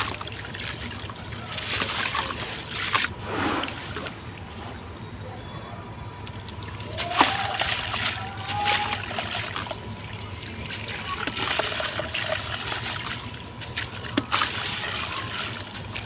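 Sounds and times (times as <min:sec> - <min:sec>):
blocks crumbling and splashing in water: 0:00.0 - 0:04.5, 0:06.2 - 0:16.0.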